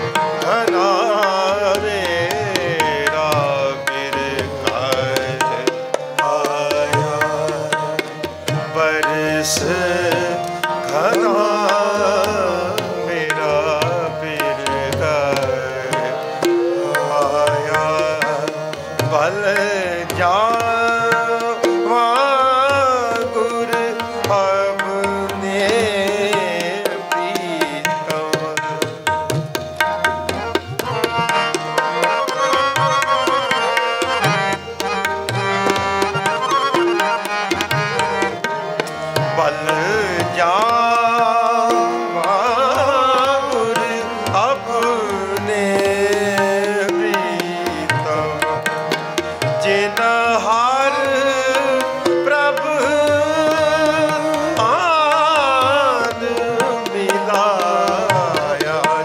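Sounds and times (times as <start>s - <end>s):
harmonium: 0.0s - 59.0s
man singing: 0.0s - 59.0s
tabla playing: 0.0s - 59.0s.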